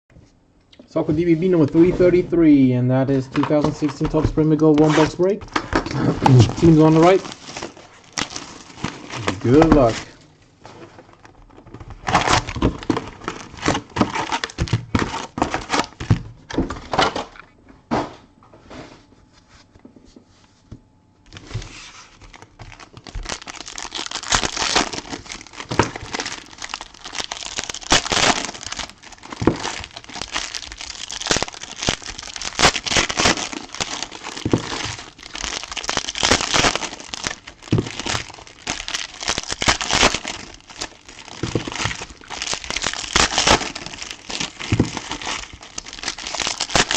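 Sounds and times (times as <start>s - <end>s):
plastic wrapping tearing and crinkling: 3.3s - 16.2s, 21.3s - 46.9s.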